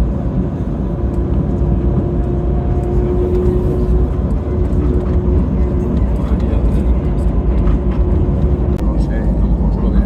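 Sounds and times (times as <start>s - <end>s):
tram rumble: 0.0s - 10.0s.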